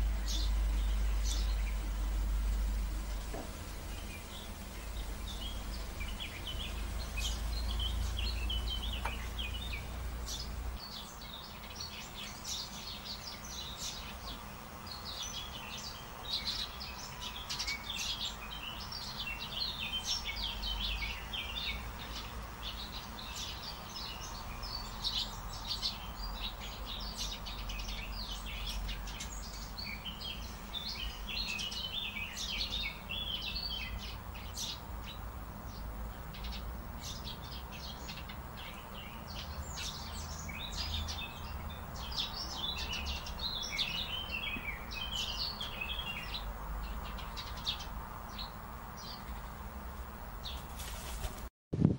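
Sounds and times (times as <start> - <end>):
songbirds chirping: 0.0 - 51.5.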